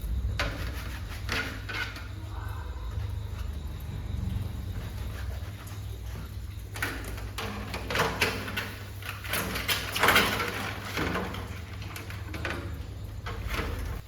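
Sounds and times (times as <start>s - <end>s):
parts scraping and sliding: 0.1s - 14.0s.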